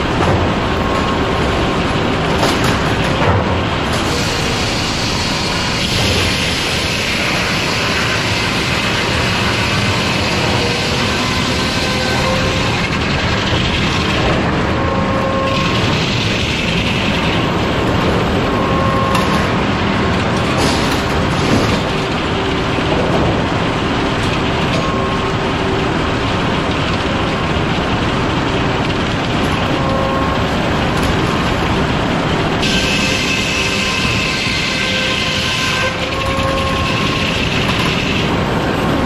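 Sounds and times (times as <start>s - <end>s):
sawmill machinery din: 0.0s - 39.0s.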